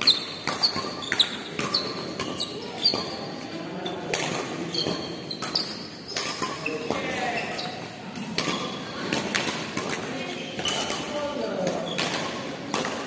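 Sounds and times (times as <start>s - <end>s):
rackets striking shuttlecock: 0.0s - 3.4s, 4.0s - 13.0s
shoes squeaking on court floor: 0.0s - 13.0s.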